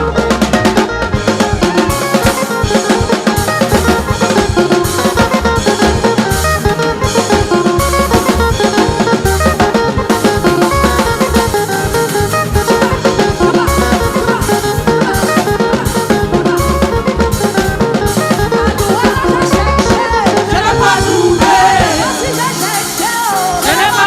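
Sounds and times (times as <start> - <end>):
band playing gospel music: 0.0 - 24.0
drum kit steady beat: 0.0 - 24.0.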